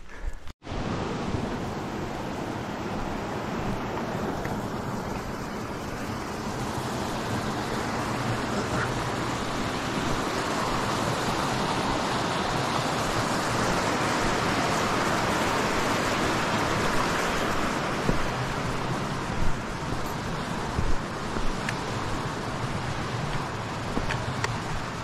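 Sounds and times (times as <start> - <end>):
stream rushing over rocks: 0.6 - 25.0.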